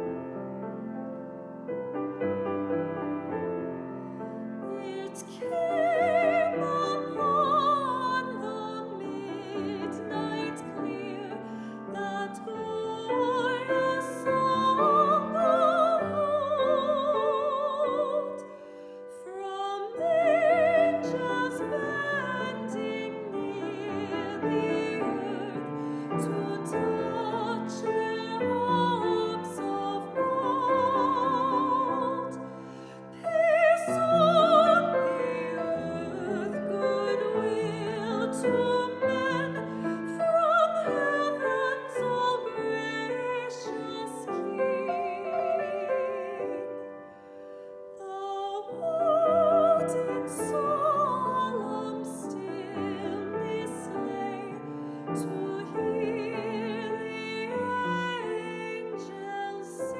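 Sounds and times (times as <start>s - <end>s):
piano accompaniment: 0.0s - 59.9s
soprano singing with vibrato: 4.5s - 59.9s.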